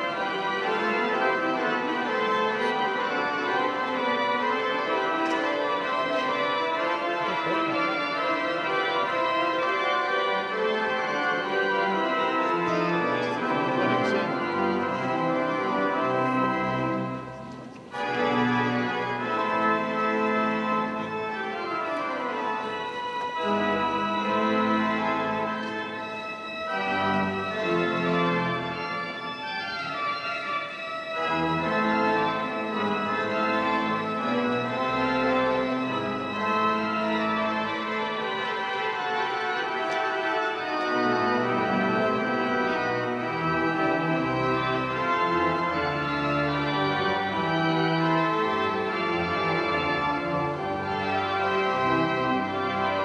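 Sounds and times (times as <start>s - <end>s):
organ playing sustained chords: 0.0s - 53.0s.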